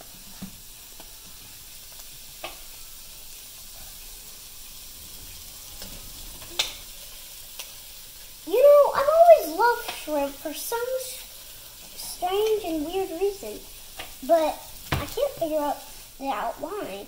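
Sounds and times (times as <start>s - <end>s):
liquid sizzling in a wok: 0.0s - 17.0s.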